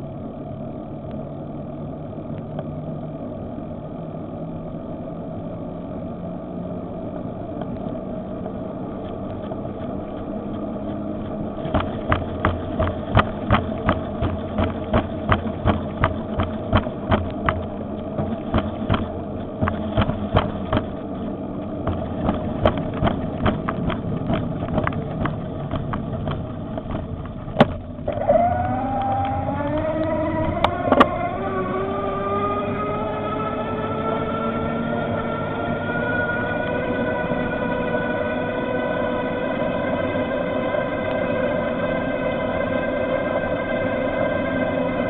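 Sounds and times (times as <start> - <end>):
electric bicycle motor whining: 0.0 - 45.0
road and wind noise: 0.0 - 45.0.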